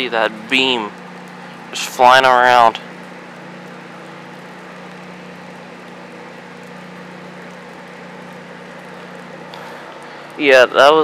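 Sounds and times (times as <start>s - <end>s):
generator engine hum: 0.0s - 11.0s.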